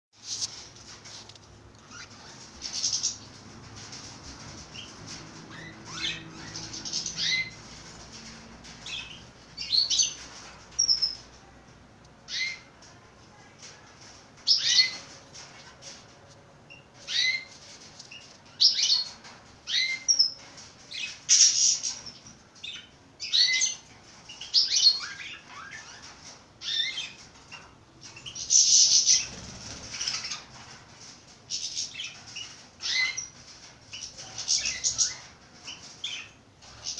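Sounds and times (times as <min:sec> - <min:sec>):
pet birds chirping: 0:01.2 - 0:11.4, 0:12.2 - 0:12.9, 0:14.4 - 0:15.9, 0:16.6 - 0:36.9.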